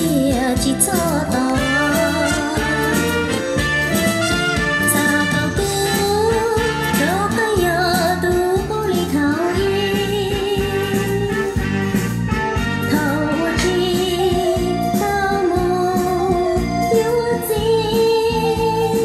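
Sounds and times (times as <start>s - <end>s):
person singing: 0.0s - 11.9s, 12.8s - 19.0s
musical accompaniment: 0.0s - 19.0s.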